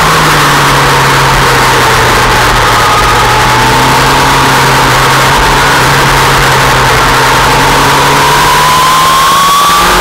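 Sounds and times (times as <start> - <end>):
motorcycle engine running at speed: 0.0 - 10.0.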